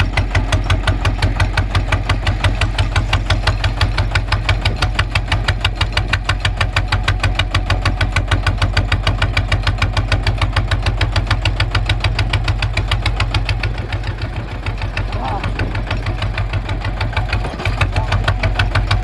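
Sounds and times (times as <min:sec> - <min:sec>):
diesel tractor engine knocking: 0:00.0 - 0:19.0.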